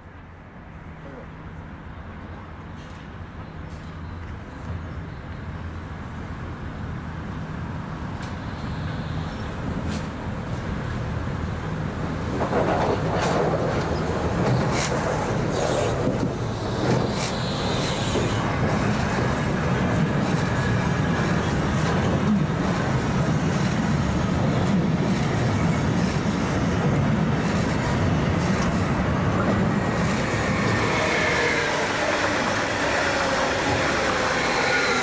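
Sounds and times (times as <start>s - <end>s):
freight train wheels rumbling: 0.0s - 35.0s
passing train whine: 0.0s - 35.0s.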